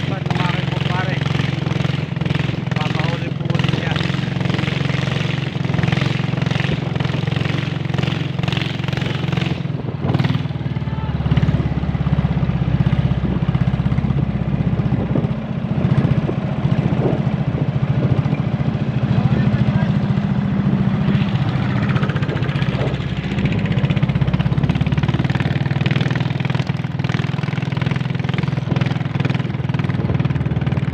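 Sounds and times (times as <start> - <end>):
small boat engine running: 0.0 - 30.9.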